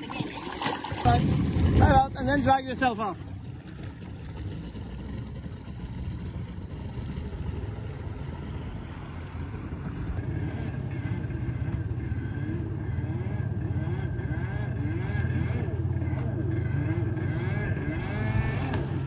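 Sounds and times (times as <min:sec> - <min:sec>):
jet ski engine: 0:00.0 - 0:19.0.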